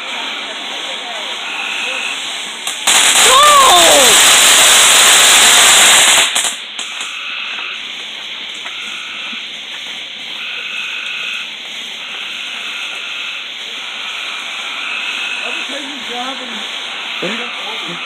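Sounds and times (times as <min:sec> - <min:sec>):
fireworks spraying sparks hissing: 0:00.0 - 0:18.0.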